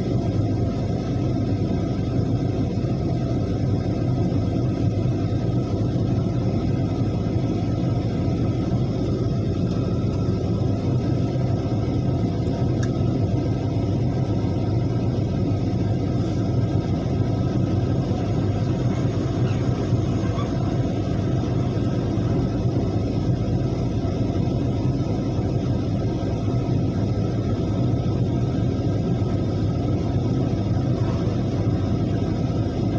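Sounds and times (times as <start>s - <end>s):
heavy diesel engine rumbling: 0.0s - 32.9s.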